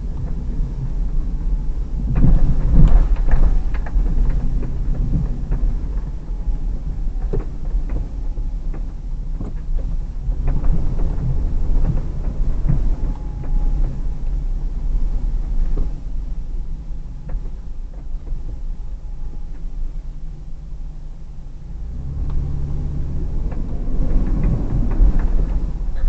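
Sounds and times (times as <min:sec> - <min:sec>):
vehicle knocks and rattles: 0:00.0 - 0:26.0
vehicle rumble inside cabin: 0:00.0 - 0:26.0.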